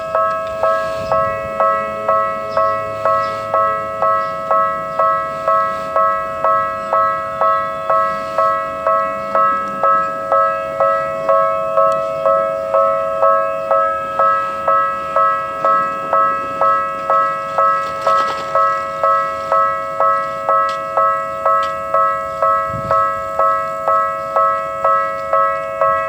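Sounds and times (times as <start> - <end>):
level-crossing alarm ringing: 0.0 - 26.0.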